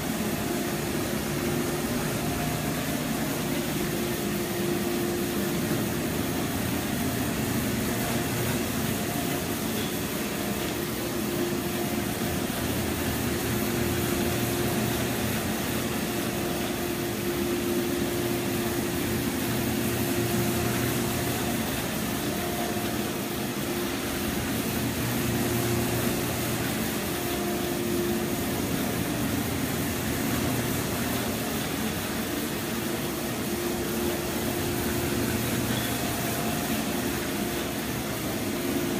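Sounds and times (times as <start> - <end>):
carpet cleaner motor hum: 0.0 - 38.9.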